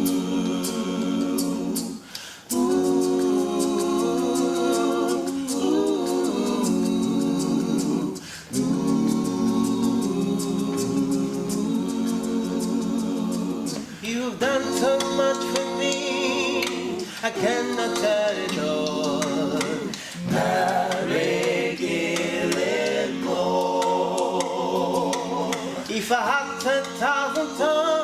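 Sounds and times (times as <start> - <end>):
vocal group singing a cappella: 0.0 - 28.0.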